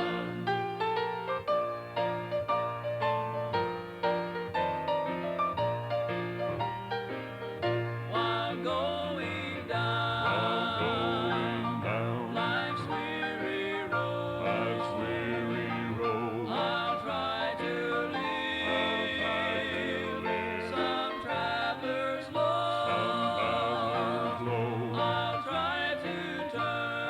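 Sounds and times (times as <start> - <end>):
gospel quartet music from cassette: 0.0 - 27.0.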